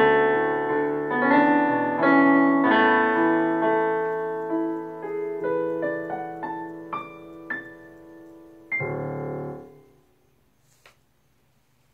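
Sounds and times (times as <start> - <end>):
keyboard piano notes and chords: 0.0 - 10.2.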